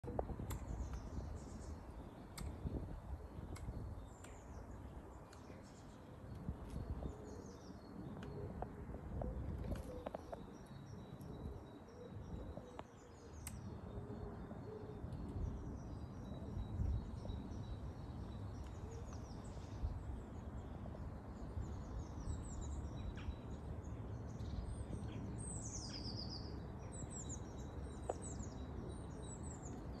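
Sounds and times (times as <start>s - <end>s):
wild birds chirping and trilling: 0.5s - 30.0s.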